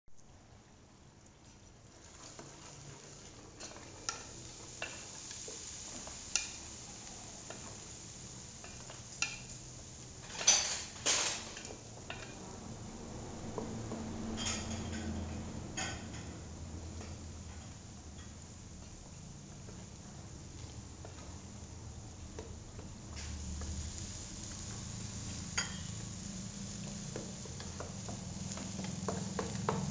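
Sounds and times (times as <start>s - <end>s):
steady hiss: 0.2s - 29.9s.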